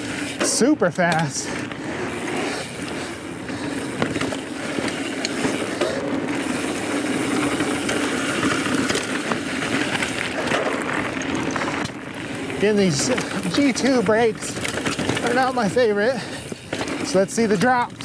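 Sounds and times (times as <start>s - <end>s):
bike clicks and rattles: 0.0s - 18.0s
bike tyre noise on dirt: 0.0s - 18.0s.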